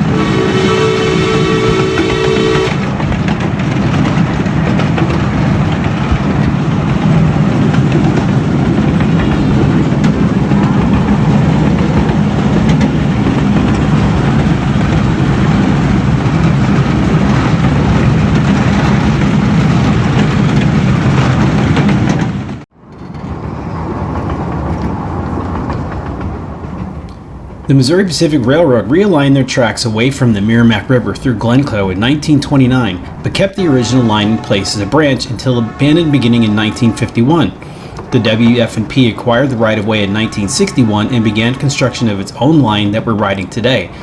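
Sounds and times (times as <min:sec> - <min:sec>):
miniature steam train rumble: 0:00.0 - 0:44.0.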